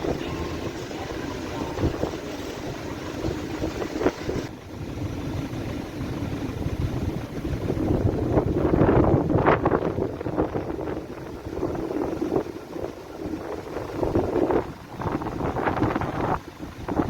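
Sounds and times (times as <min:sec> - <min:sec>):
strong wind gusting: 0:00.0 - 0:17.0
wind buffeting microphone: 0:00.0 - 0:17.0.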